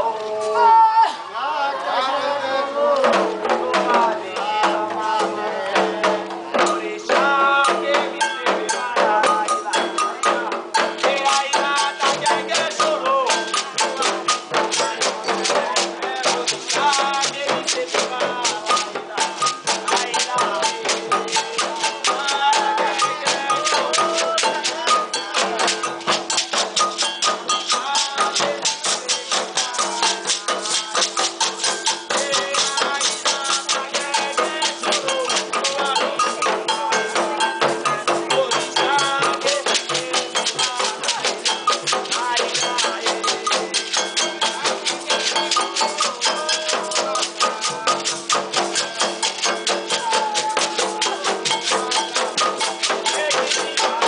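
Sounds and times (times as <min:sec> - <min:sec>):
voices singing a chant: 0:00.0 - 0:54.0
drums beating fast rhythm: 0:02.8 - 0:54.0.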